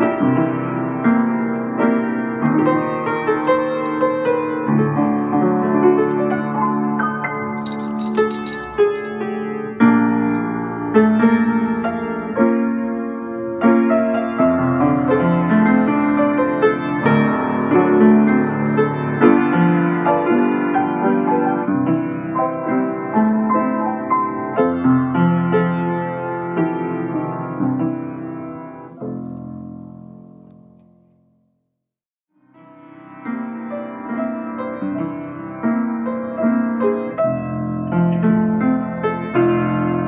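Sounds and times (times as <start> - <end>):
solo piano playing chords: 0.0 - 31.6, 32.4 - 40.0.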